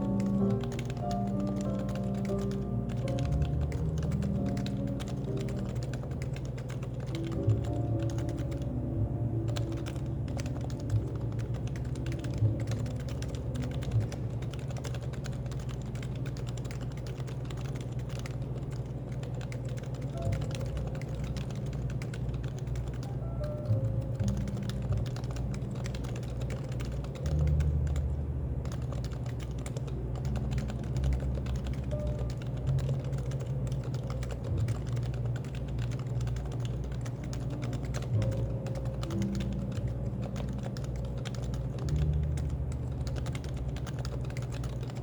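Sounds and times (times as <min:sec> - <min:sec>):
fast keyboard typing: 0:00.0 - 0:45.0
low steady hum: 0:00.0 - 0:45.0.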